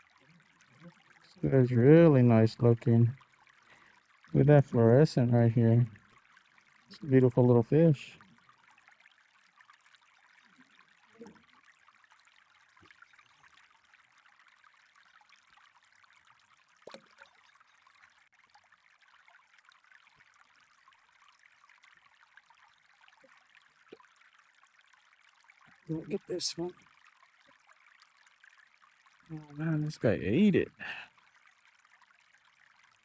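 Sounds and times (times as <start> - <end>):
water trickling: 0.0 - 33.0.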